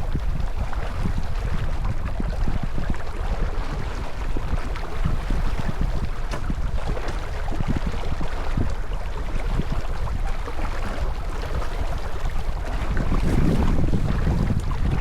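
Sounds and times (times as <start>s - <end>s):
water rushing along a hull: 0.0s - 15.0s
wind buffeting the microphone: 0.0s - 15.0s.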